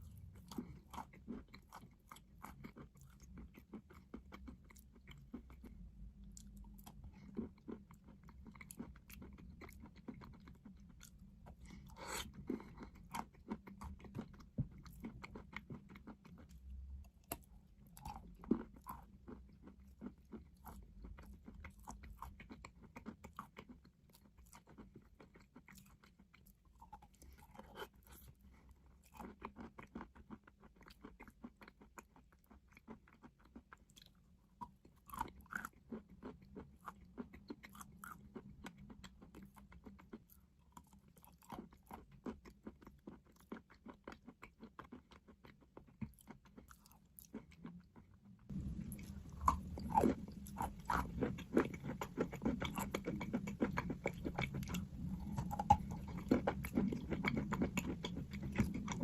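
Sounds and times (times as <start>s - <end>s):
person chewing crunchy chalk: 0.0s - 59.0s.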